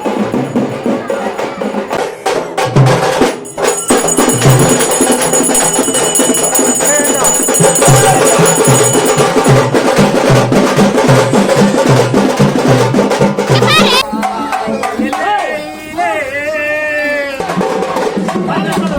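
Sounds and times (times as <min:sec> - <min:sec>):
music with drums and percussion: 0:00.0 - 0:15.9, 0:17.2 - 0:18.9.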